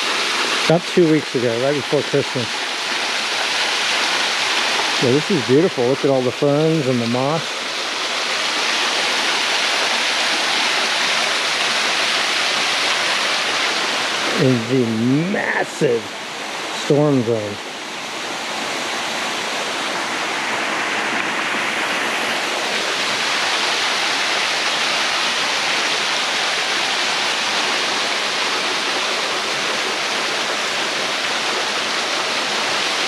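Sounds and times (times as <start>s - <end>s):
waterfall pouring: 0.0s - 33.0s.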